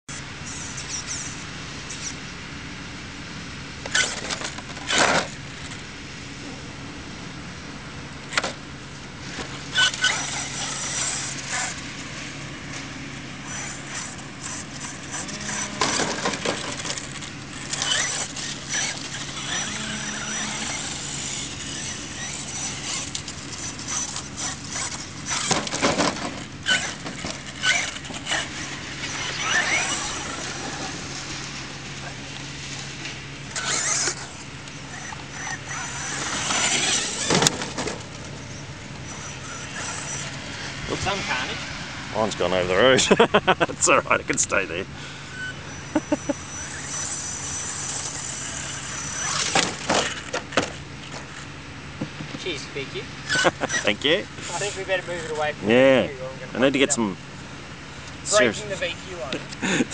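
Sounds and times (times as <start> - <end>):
steady background noise: 0.0 - 59.9
electric rc truck motor whine: 0.1 - 2.4, 3.8 - 6.8, 8.3 - 43.6, 44.6 - 51.6, 52.9 - 56.0.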